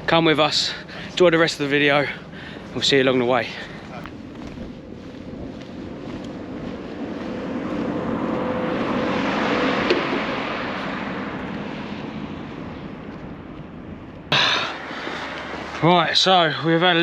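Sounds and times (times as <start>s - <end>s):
road vehicle passing by: 0.0s - 17.0s.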